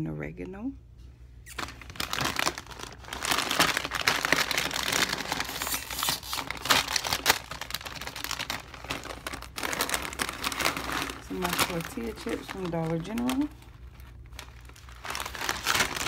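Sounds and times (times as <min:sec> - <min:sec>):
plastic bag crinkling: 0:01.5 - 0:16.0.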